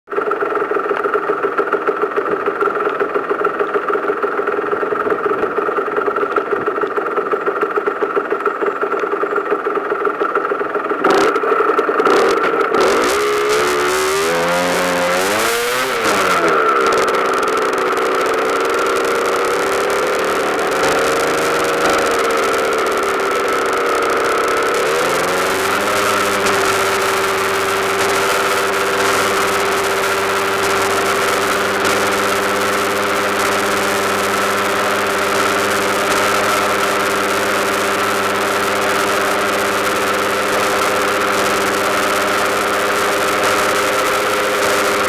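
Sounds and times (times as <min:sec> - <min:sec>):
motorcycle engine revving: 0:00.4 - 0:45.0.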